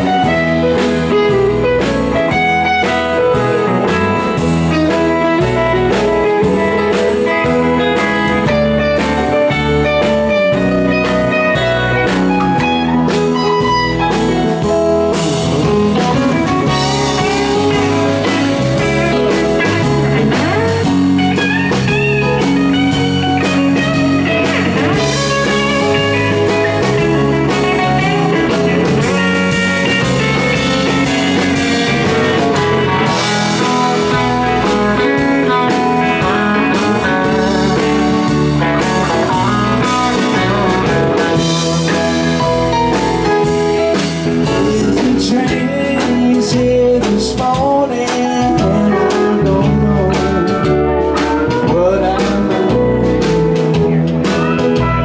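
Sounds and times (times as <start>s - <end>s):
electric band jamming: 0.0s - 55.0s
electric guitar lead line: 0.0s - 55.0s.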